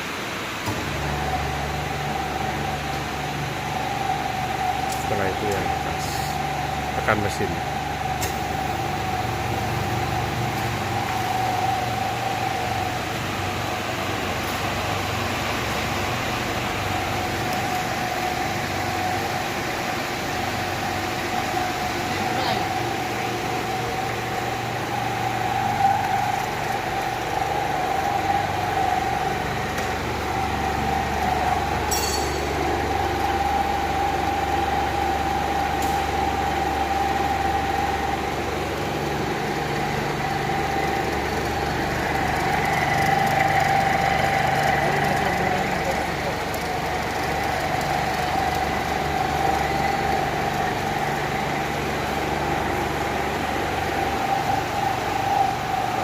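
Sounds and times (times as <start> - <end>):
refrigeration unit whine and hum: 0.0 - 56.0.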